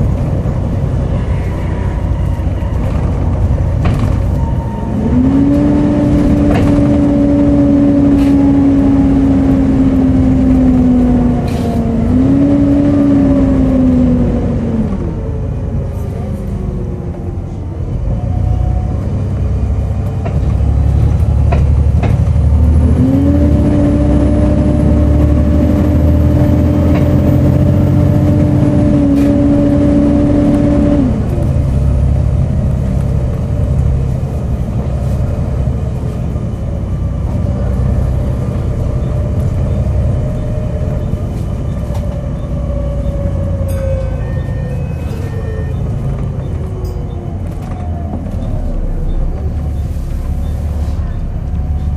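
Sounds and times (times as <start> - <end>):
bus engine running: 0.0 - 51.9.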